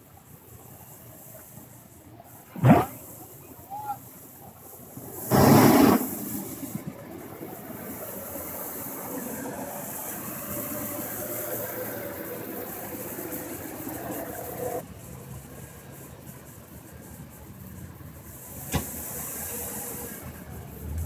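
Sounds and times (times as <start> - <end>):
jeep engine running: 2.8 - 21.0.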